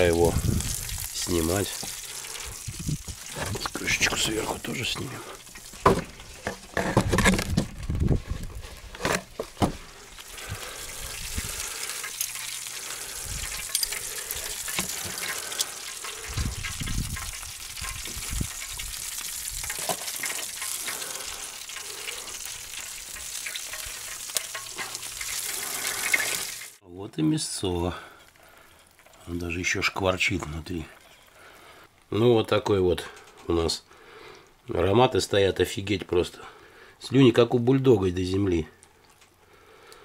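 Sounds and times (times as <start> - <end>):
meat sizzling and popping: 0.0 - 26.8, 27.4 - 33.6, 37.7 - 40.0.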